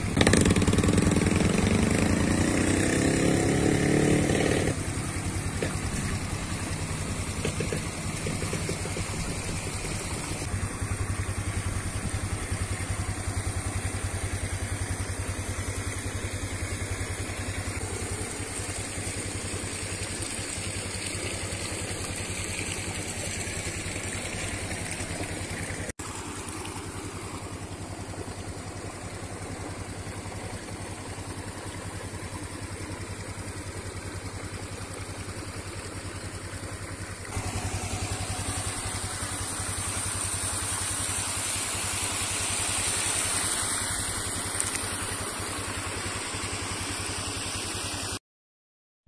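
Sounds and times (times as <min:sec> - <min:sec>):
scooter engine idling: 0:00.0 - 0:48.2.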